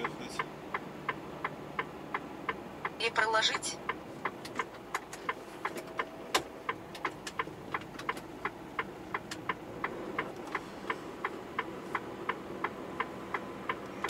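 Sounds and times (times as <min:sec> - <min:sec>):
indicator relay ticking: 0:00.0 - 0:14.0
truck engine running: 0:00.0 - 0:14.0.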